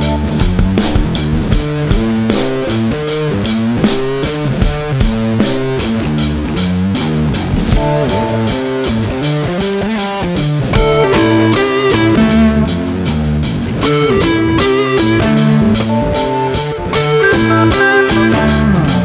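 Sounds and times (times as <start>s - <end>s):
drum kit beat: 0.0s - 19.0s
guitar and bass riffs: 0.0s - 19.0s.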